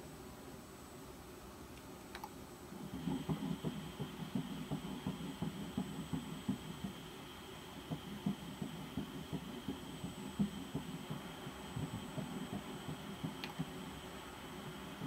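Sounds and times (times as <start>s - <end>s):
fast doppler heartbeat pulse: 2.7s - 15.0s.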